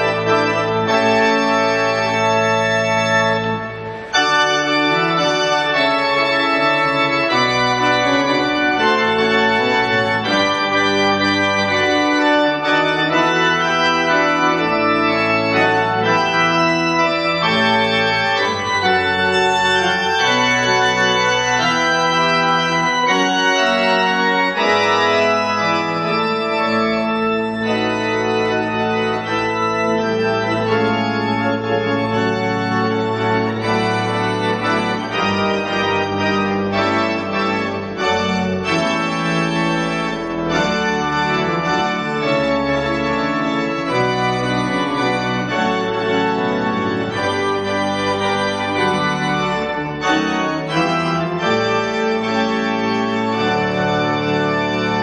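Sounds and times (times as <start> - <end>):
organ sustained chords: 0.0 - 55.0.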